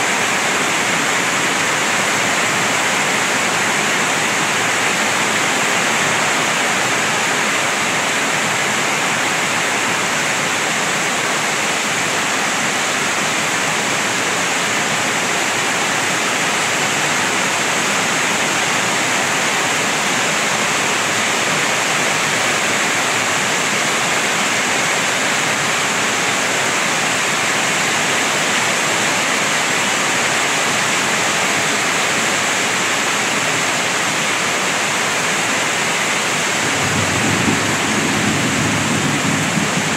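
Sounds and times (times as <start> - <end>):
heavy rain pouring on concrete: 0.0 - 39.9.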